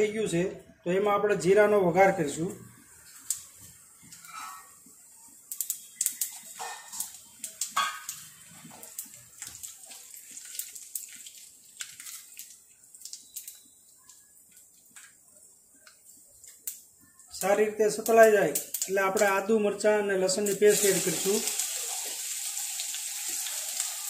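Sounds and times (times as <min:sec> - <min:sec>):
spices sizzling and crackling in oil: 0:02.8 - 0:19.6, 0:20.2 - 0:24.0.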